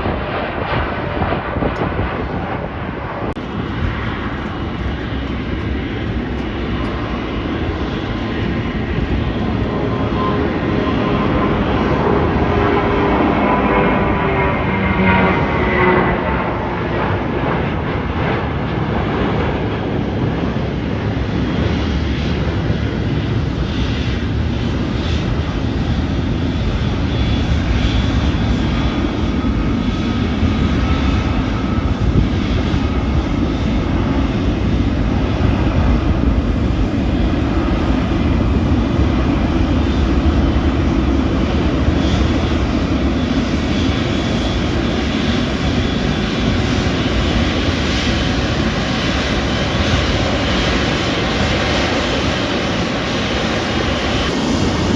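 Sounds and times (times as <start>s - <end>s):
airliner engines roaring: 0.0s - 54.9s.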